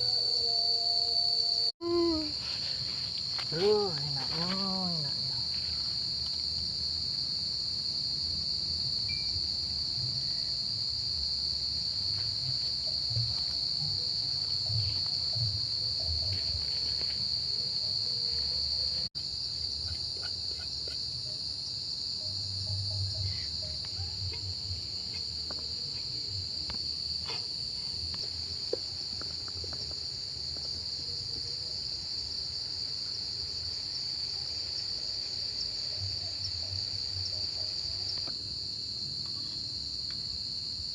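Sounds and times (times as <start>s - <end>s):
night insects trilling: 0.0s - 40.9s.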